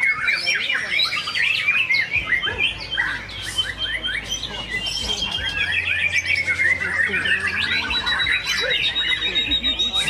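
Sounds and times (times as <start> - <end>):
bird singing whistles and trills: 0.0 - 10.0.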